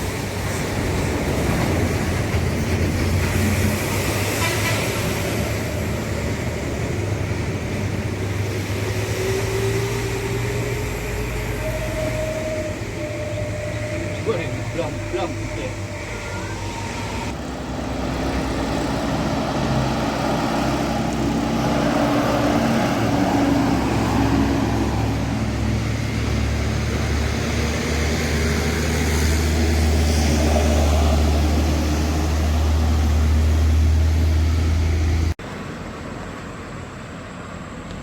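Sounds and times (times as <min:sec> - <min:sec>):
diesel bus engine running: 0:00.0 - 0:38.0
road and tyre noise: 0:00.0 - 0:38.0
traffic noise: 0:00.0 - 0:38.0.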